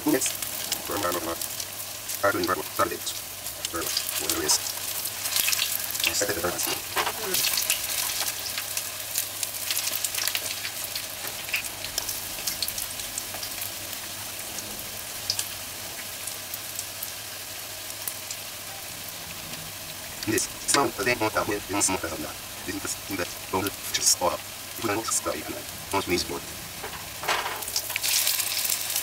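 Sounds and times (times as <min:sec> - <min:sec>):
batter frying in hot oil: 0:00.0 - 0:29.0.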